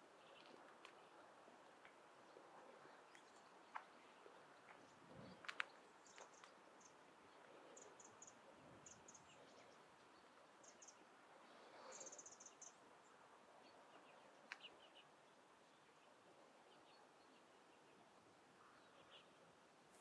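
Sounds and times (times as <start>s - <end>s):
background hiss: 0.0s - 20.0s
distant birds chipping: 0.0s - 20.0s.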